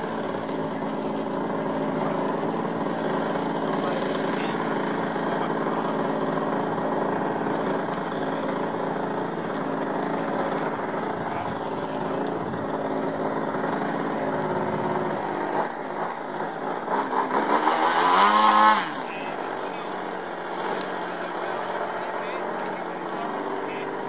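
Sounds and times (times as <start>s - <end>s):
model plane engine and propeller: 0.0s - 24.0s.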